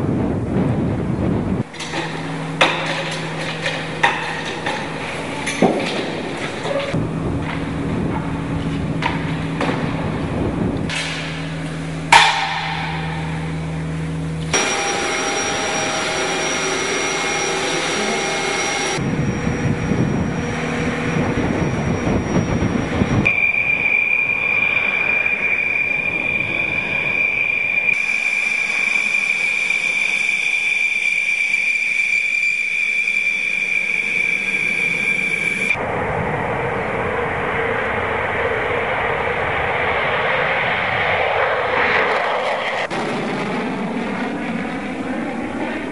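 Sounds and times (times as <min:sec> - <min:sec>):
high whine: 0:00.0 - 0:45.9
jet engine noise: 0:00.0 - 0:45.9.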